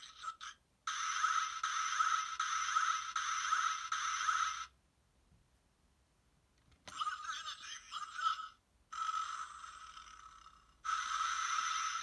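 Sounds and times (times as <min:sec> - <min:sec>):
tinny electronic toy sound effects: 0:00.0 - 0:04.8, 0:06.9 - 0:12.0.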